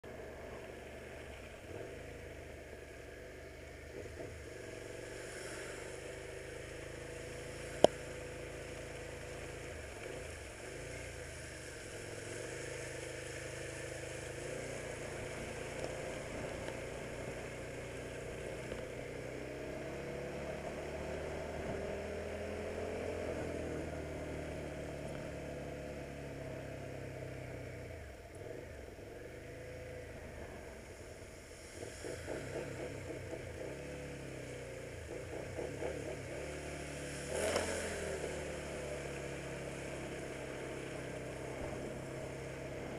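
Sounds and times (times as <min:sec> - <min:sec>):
motorcycle engine running: 0:00.0 - 0:42.9
tyres hissing on wet road: 0:00.1 - 0:42.9.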